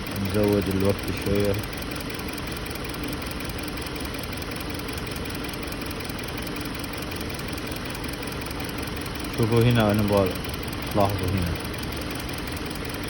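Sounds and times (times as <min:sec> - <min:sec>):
car engine idling with misfire: 0:00.0 - 0:13.0.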